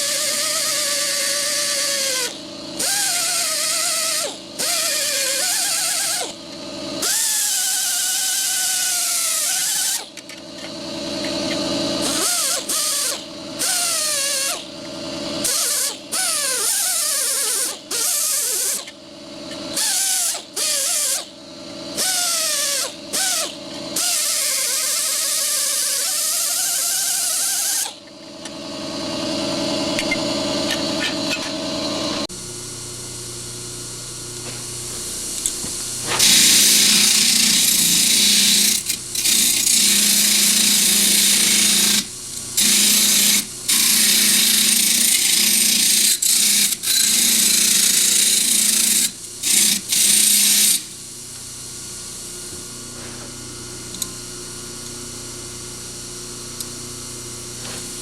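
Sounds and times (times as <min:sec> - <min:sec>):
power tool wire wheel whining: 0:00.0 - 0:32.3, 0:34.8 - 0:51.0.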